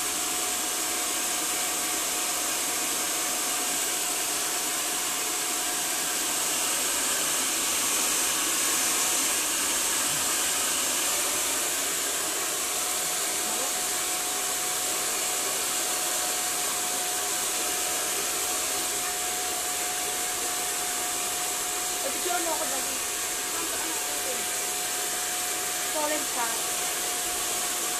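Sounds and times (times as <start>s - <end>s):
hair dryer blowing: 0.0s - 27.9s.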